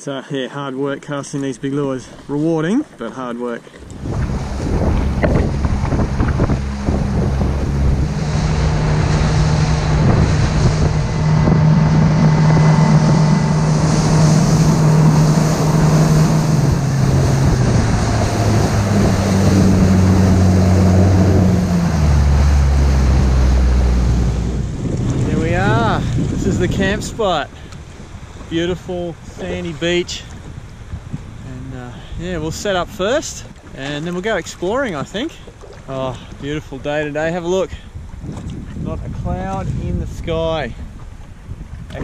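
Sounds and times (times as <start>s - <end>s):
water noise: 0.0s - 42.0s
boat engine running: 0.9s - 42.0s
wind on microphone: 3.6s - 42.0s.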